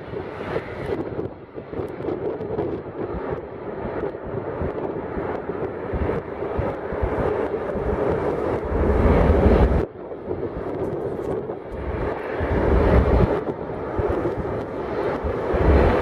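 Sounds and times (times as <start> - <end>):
jet engine rumble: 0.0 - 16.0
wind buffeting microphone: 0.0 - 16.0.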